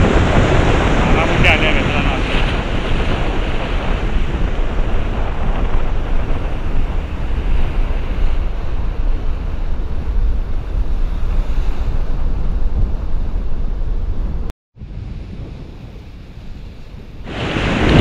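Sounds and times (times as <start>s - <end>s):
choppy sea waves: 0.0s - 18.0s
wind buffeting microphone: 0.0s - 18.0s.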